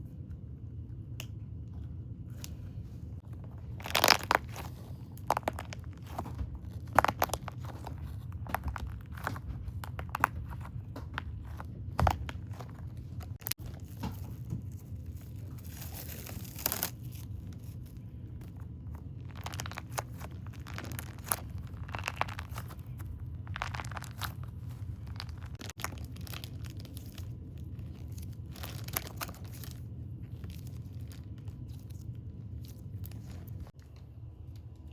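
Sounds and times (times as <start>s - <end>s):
steady low hum: 0.0s - 34.9s
crinkly material crackling: 2.3s - 34.9s.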